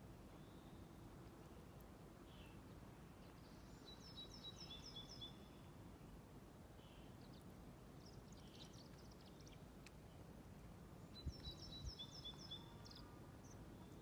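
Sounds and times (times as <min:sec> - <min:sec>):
low outdoor background hiss: 0:00.0 - 0:14.0
faint songbird chirps: 0:00.2 - 0:10.3, 0:10.9 - 0:14.0.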